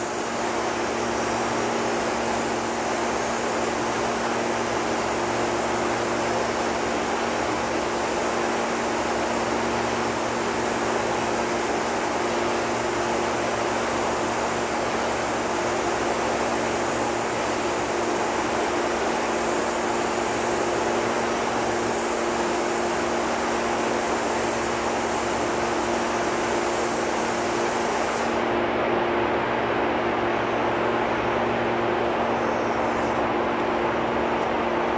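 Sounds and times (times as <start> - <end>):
spray gun hissing: 0.0 - 28.5
ventilation hum and air rush: 0.0 - 34.9.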